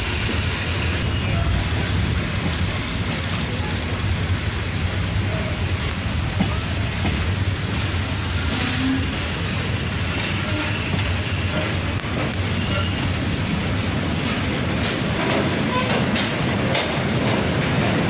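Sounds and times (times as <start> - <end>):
passenger train rumbling: 0.0 - 18.0.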